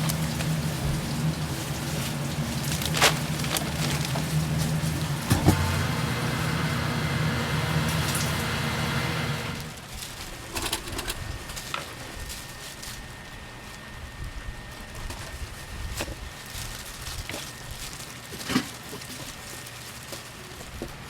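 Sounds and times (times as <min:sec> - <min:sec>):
low motor hum: 0:00.0 - 0:17.9.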